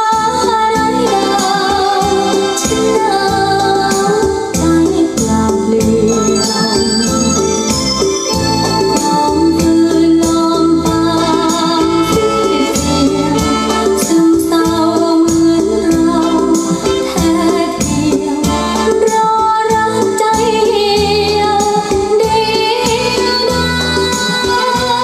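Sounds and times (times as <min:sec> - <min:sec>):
music with singing over loudspeakers: 0:00.0 - 0:25.0.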